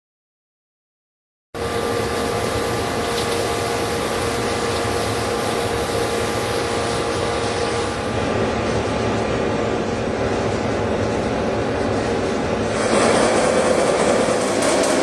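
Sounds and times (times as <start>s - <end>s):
machine running with steady hum: 1.6s - 15.0s.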